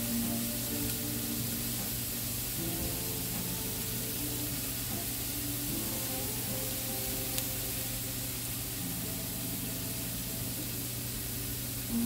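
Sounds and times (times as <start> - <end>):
onions sizzling in a skillet: 0.0 - 12.0
soft background music: 0.0 - 12.0.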